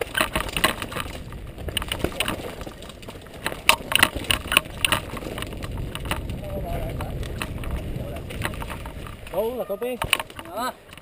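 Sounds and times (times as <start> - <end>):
mountain bike rattling over rocks: 0.0 - 11.0
wind rumble on microphone: 0.0 - 11.0.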